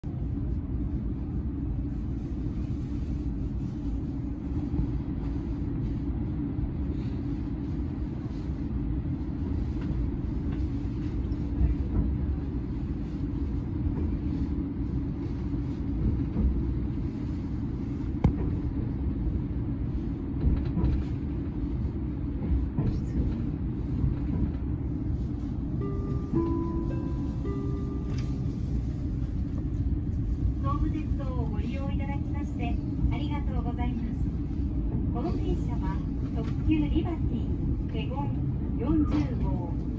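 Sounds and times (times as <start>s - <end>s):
train running low rumble: 0.0s - 39.9s.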